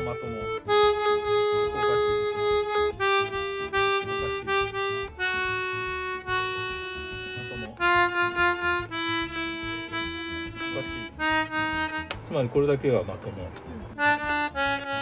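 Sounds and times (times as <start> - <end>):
accordion reeds playing held notes: 0.0 - 12.5, 13.9 - 15.0.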